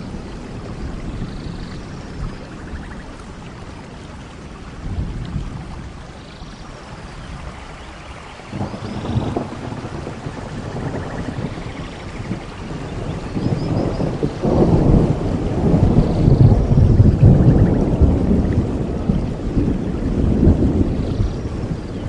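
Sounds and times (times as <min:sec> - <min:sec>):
rolling thunder: 0:00.0 - 0:06.1, 0:08.4 - 0:22.0
steady rain: 0:00.0 - 0:22.0.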